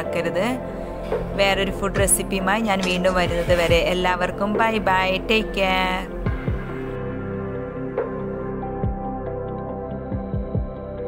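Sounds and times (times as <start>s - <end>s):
ambient music with held notes: 0.0s - 11.0s.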